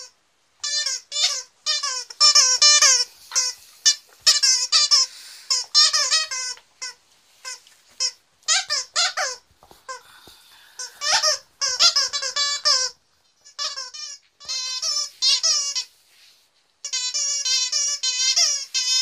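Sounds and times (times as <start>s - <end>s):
squeaky dog toy squeaking: 0.0s - 10.0s, 10.8s - 15.9s, 16.8s - 19.0s.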